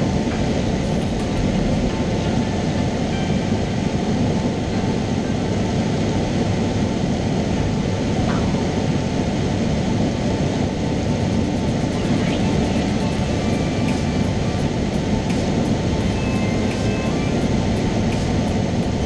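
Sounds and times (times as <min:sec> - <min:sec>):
airplane engine drone in cabin: 0:00.0 - 0:19.0.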